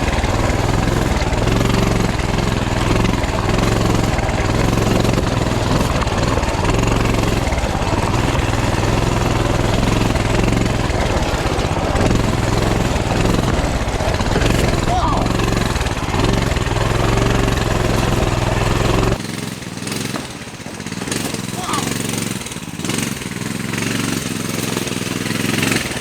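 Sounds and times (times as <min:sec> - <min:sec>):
small motorbike engine running: 0:00.0 - 0:26.0.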